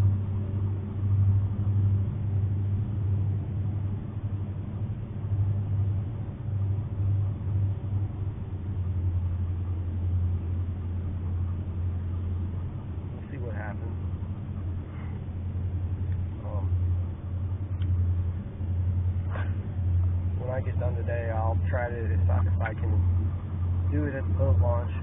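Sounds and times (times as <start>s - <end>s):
faint pitched hum: 0.0s - 25.0s
low rumbling drone: 0.0s - 25.0s.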